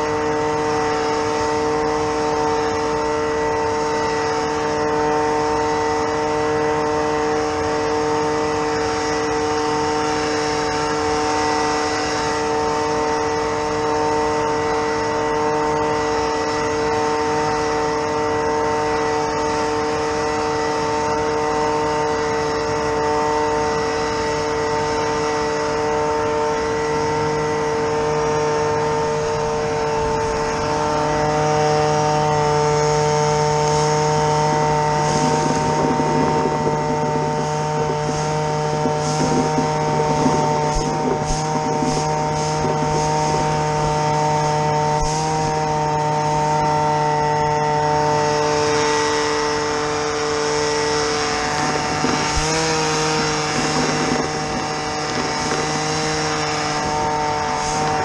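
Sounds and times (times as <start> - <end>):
motorised machine humming: 0.0 - 58.0.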